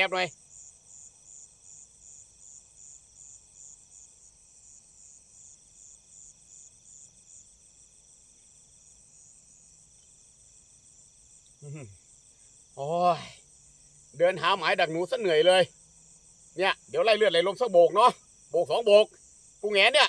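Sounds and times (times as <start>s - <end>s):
crickets chirping trill: 0.0s - 20.0s
lower insect trill: 0.0s - 20.0s.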